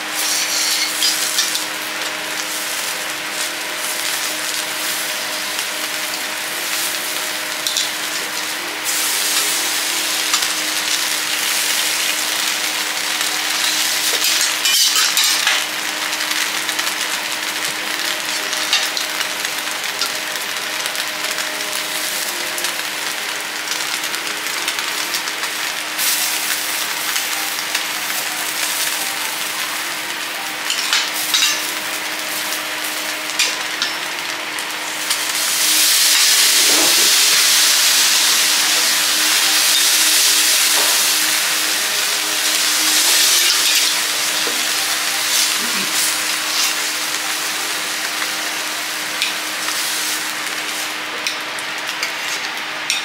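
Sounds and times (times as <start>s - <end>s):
vegetables sizzling on griddle: 0.0s - 53.0s.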